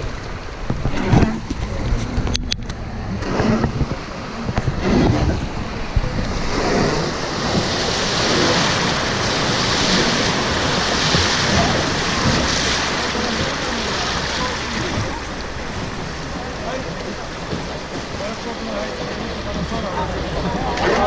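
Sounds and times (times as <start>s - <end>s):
rushing river water: 0.0s - 21.0s
wind rumbling on microphone: 0.0s - 21.0s.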